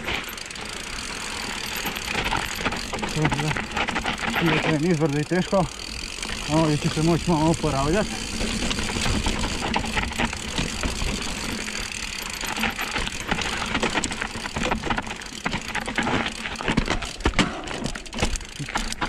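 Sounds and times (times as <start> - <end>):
bike rattling and knocking: 0.0 - 19.0
tyres crunching on dirt: 0.0 - 19.0.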